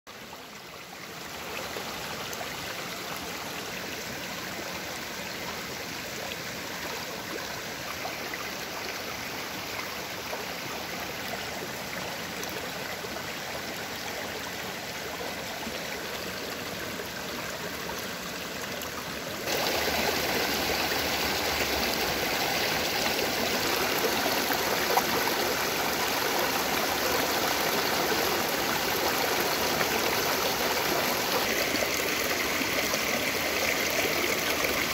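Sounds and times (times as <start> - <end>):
stream splashing over stones: 0.7 - 34.9.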